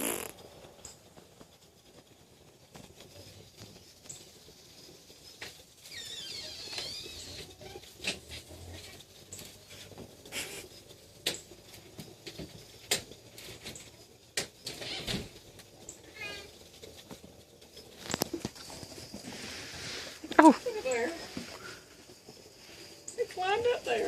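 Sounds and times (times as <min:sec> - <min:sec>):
kitten paws tapping and pattering: 0:00.0 - 0:24.0.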